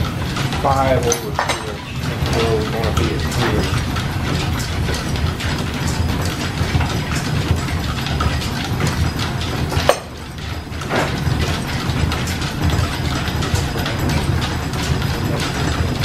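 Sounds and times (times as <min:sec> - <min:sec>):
machinery clatter of gears and belts: 0:00.0 - 0:16.0.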